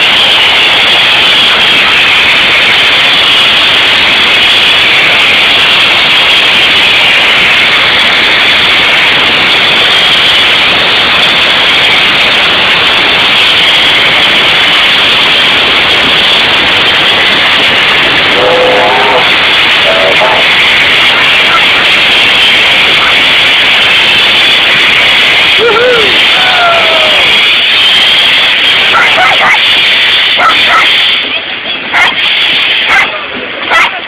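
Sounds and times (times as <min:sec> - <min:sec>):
steam locomotive hissing: 0:00.0 - 0:34.0.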